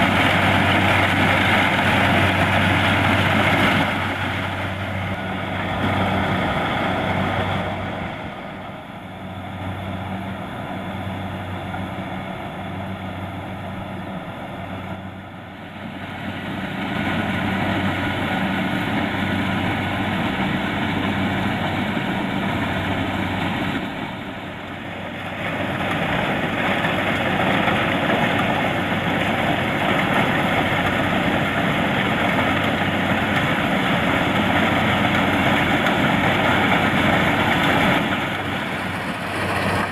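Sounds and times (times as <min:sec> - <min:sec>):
diesel engine running: 0:00.0 - 0:39.9
harvester machinery clattering: 0:00.0 - 0:39.9.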